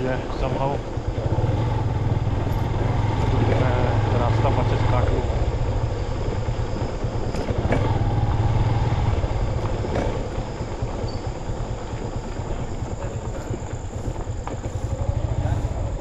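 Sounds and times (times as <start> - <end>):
motorcycle engine and road noise: 0.0 - 16.0.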